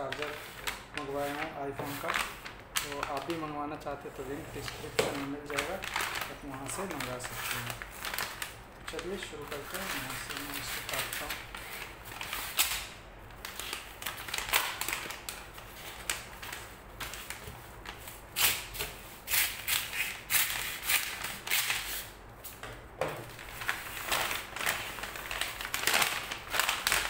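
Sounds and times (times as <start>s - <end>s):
stiff paper crinkling: 0.0s - 22.1s, 23.2s - 27.0s.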